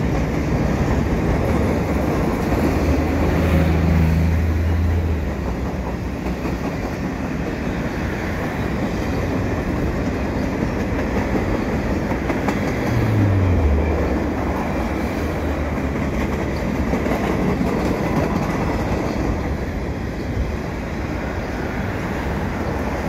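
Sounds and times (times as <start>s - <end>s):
freight train rolling on rails: 0.0s - 23.0s.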